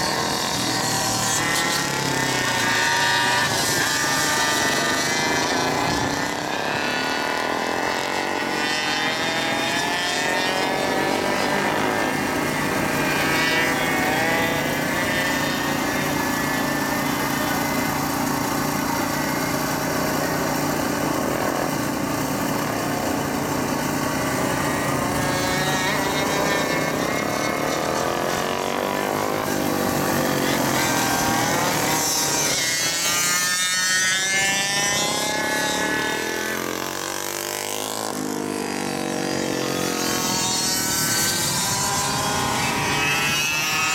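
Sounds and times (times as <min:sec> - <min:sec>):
scooter passing close accelerating: 0:00.0 - 0:43.9
two-stroke scooter engines buzzing: 0:00.0 - 0:43.9.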